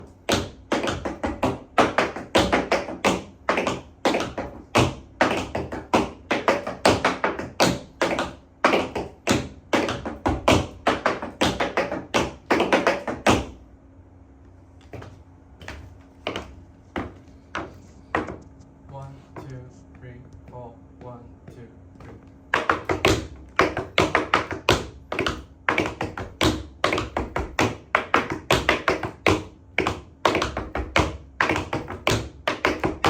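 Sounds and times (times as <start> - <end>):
tap shoes on wooden board: 0.0 - 13.6, 14.8 - 19.6, 20.4 - 33.0.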